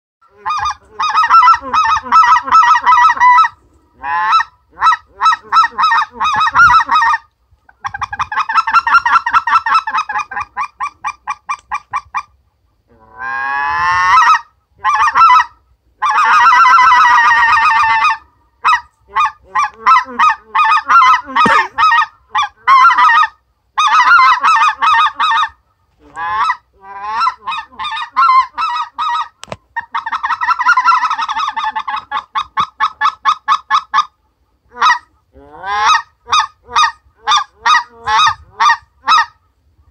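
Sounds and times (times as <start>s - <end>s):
goose call honking and clucking: 0.2s - 39.9s.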